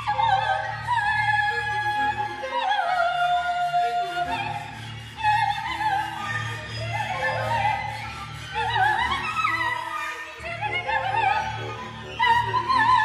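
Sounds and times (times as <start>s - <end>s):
operatic soprano singing: 0.0s - 13.0s.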